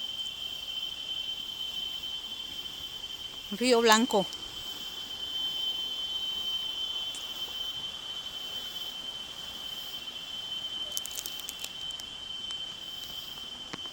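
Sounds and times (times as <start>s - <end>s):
insects trilling: 0.0s - 13.9s.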